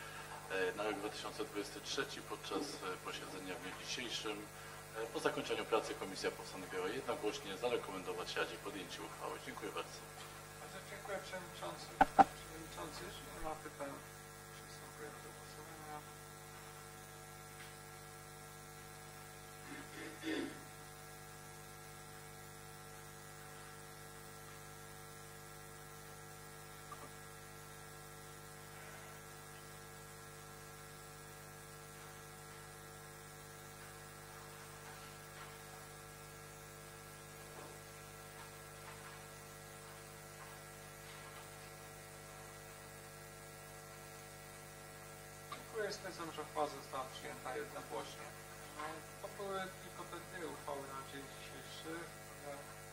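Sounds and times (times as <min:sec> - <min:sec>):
electrical mains hum: 0:00.0 - 0:52.9.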